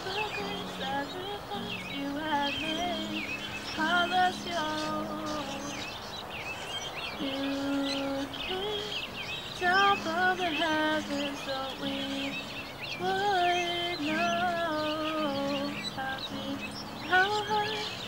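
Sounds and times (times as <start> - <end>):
woman singing: 0.0 - 6.0, 7.2 - 18.0
acoustic guitar: 0.0 - 18.0
birds chirping: 0.0 - 18.0.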